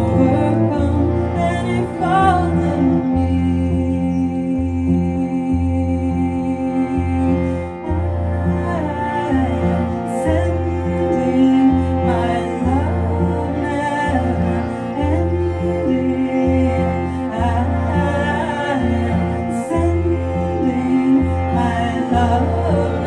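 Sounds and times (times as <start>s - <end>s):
bowed cello melody: 0.0s - 23.0s
low bass line: 0.0s - 23.0s.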